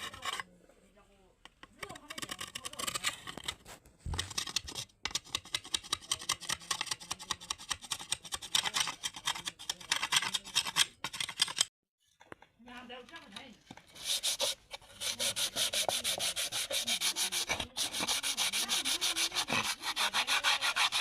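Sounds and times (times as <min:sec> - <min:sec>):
bamboo being scraped: 0:00.0 - 0:00.5, 0:01.7 - 0:11.6, 0:13.8 - 0:21.0.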